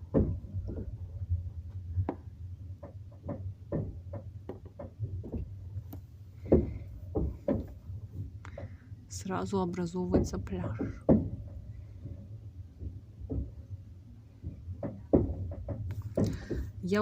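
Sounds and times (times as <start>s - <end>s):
low rumble of moving carriage: 0.0s - 17.0s.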